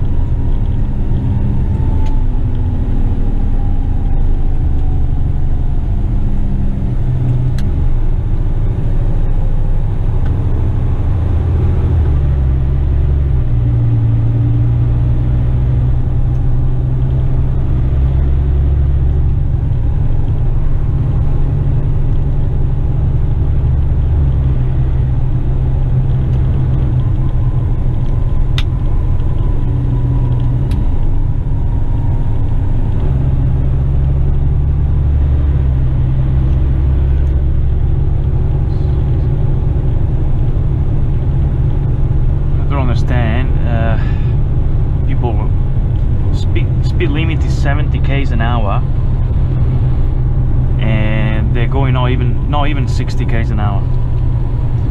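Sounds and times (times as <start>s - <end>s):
truck diesel engine driving: 0.0s - 54.9s.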